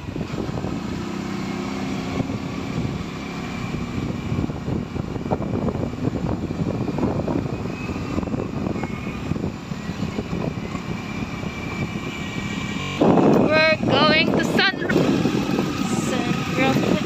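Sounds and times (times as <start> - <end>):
motorcycle engine running: 0.0 - 17.0
wind buffeting on microphone: 0.0 - 17.0.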